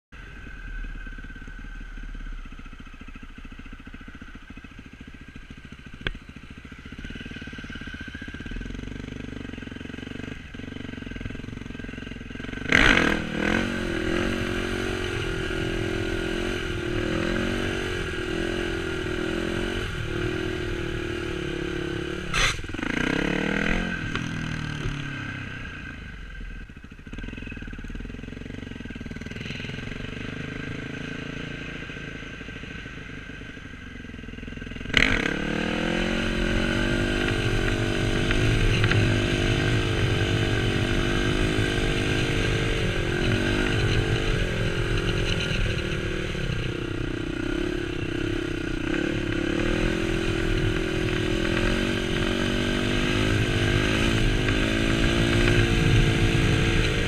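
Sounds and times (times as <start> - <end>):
motorcycle engine revving: 0.2 - 57.0.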